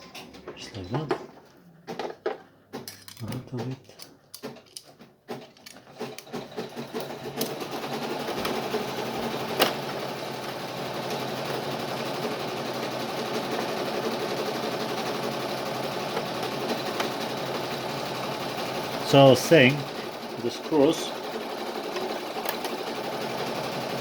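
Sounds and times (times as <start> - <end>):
sewing machine whirring: 1.8 - 24.0.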